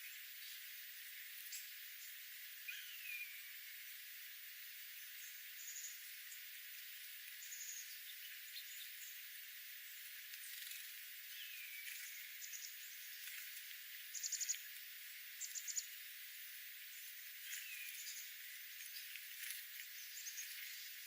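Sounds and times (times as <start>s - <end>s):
faint steady hiss: 0.0s - 21.0s
small songbirds chirping: 0.0s - 21.0s.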